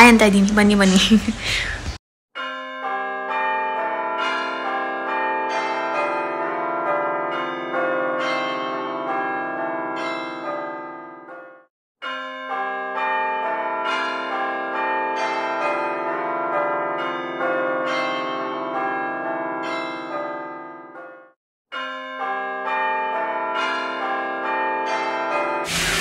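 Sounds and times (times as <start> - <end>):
chiming bell music: 2.4 - 25.7.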